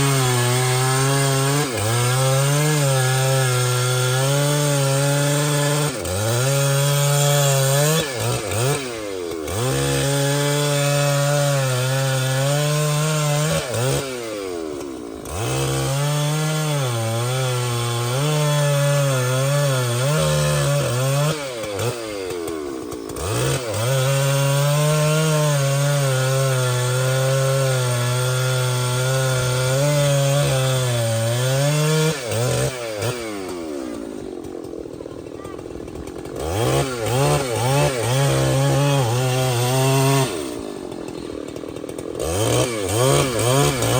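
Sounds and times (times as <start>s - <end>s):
chainsaw cutting through wood: 0.0s - 43.9s.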